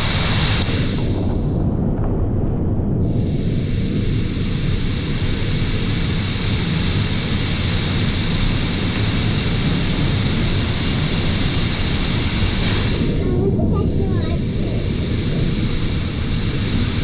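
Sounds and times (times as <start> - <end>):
heavy rain falling: 0.0 - 2.1, 3.3 - 17.0.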